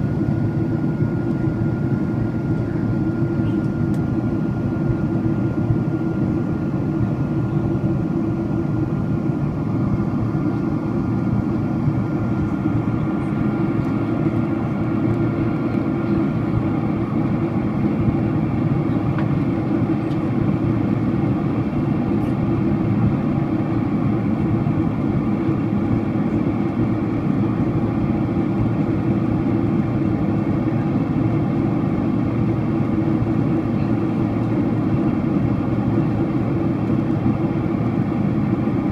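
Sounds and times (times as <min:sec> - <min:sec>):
airliner cabin engine and airflow rush: 0:00.0 - 0:38.9.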